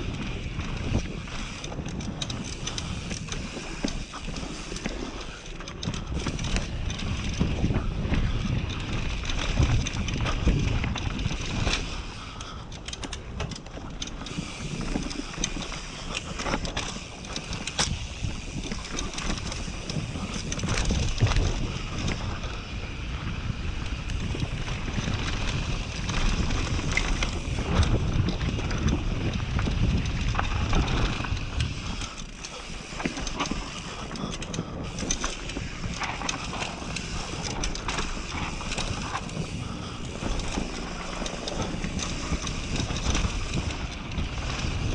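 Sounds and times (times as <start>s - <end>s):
bike rattling over bumps: 0.0s - 44.9s
tyres running on loose dirt: 0.0s - 44.9s
wind rushing over microphone: 0.0s - 44.9s.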